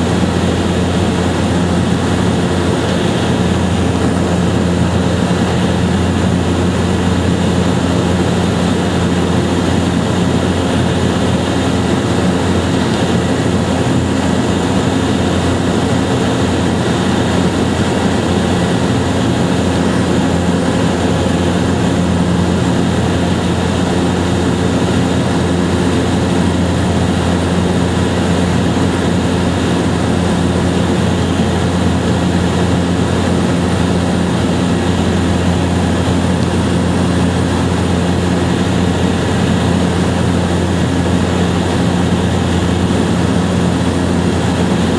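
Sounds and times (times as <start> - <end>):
loud steady engine drone: 0.0 - 44.9.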